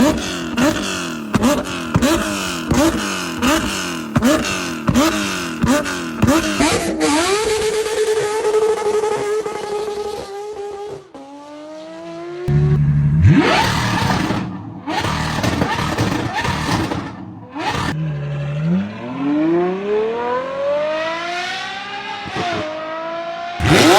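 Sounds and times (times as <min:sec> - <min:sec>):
car accelerating: 0:00.0 - 0:23.9
supercar engine revving: 0:00.0 - 0:23.9.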